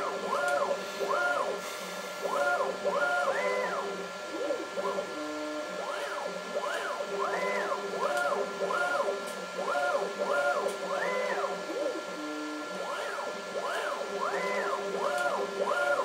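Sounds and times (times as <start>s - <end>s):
steady hum of tones: 0.0s - 16.0s.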